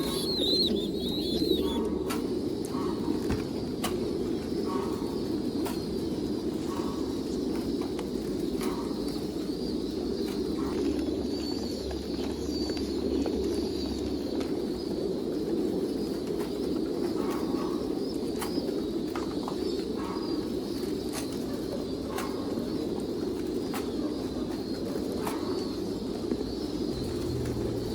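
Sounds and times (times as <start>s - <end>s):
pigeons cooing: 0.0s - 27.9s.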